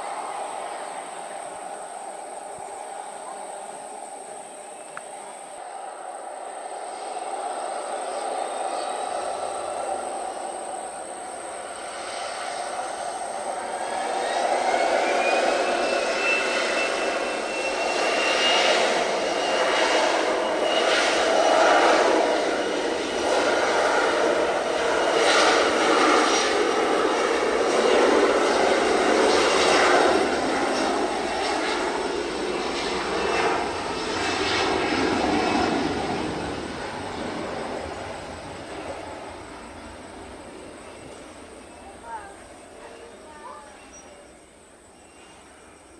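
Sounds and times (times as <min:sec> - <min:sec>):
jet airliner engines whining: 0:00.0 - 0:45.9.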